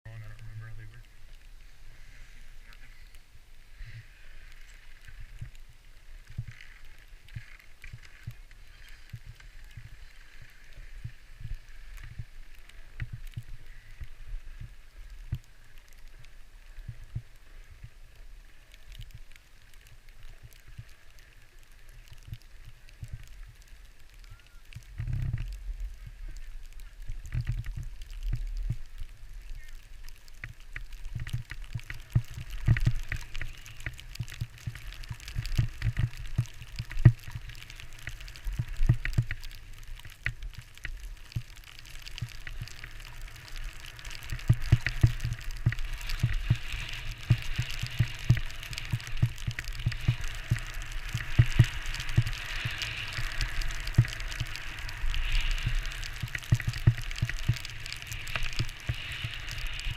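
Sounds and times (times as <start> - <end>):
skis scraping over snow: 0.1 - 59.9.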